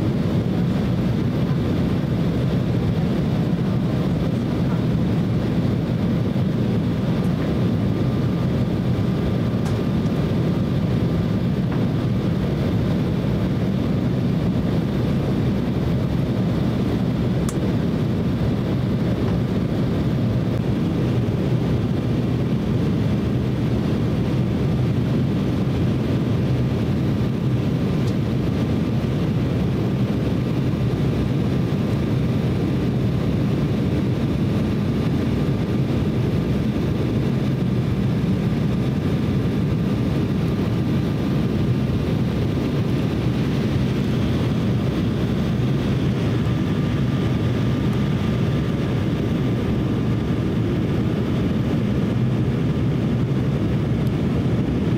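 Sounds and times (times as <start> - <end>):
faint thin steady whine: 0.0 - 54.9
jet engine rumble: 0.0 - 54.9
rushing air: 0.0 - 54.9.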